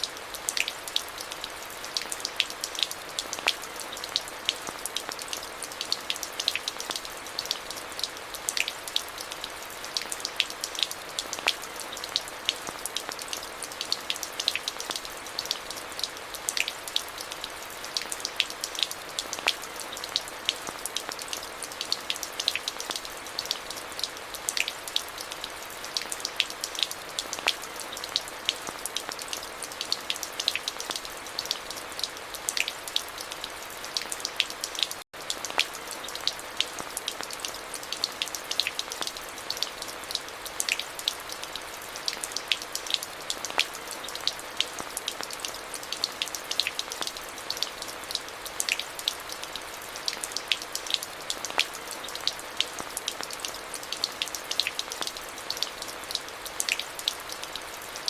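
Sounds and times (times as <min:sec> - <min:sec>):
raindrops ticking close by: 0:00.0 - 0:58.0
steady rain hiss: 0:00.0 - 0:58.0.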